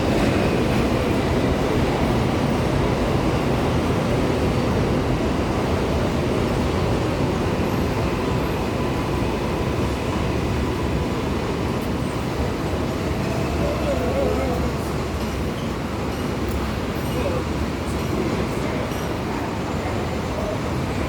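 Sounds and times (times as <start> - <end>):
subway train passing: 0.0 - 21.0.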